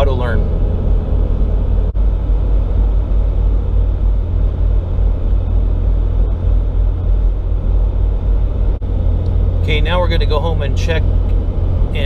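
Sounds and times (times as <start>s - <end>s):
truck cab road and engine rumble: 0.0s - 12.0s.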